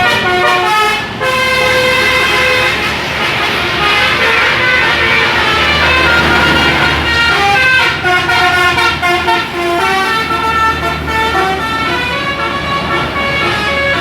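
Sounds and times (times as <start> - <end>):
bus engine rumble: 0.0 - 14.0
musical bus horn: 0.0 - 14.0.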